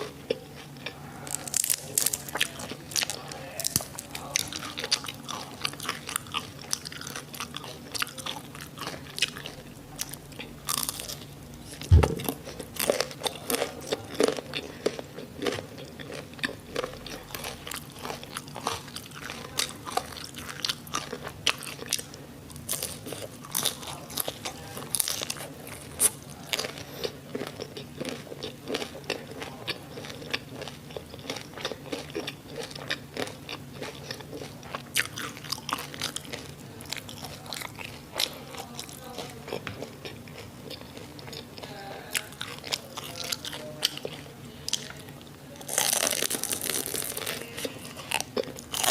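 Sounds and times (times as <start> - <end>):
crunching and chewing food: 0.0 - 48.9.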